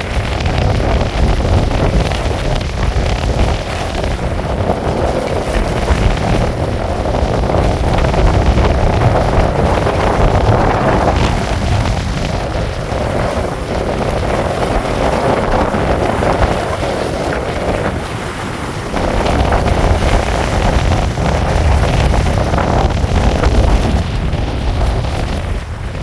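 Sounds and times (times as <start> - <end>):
rain falling: 0.0 - 26.0
wind buffeting microphone: 0.0 - 26.0.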